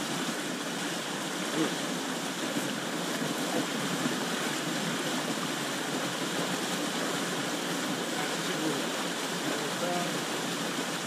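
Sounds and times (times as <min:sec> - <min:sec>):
water rushing through culvert pipe: 0:00.0 - 0:11.0.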